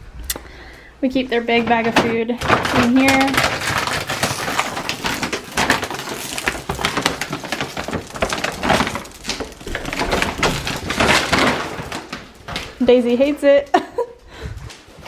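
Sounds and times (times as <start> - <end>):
dry dog food bag crinkling: 1.1 - 15.0.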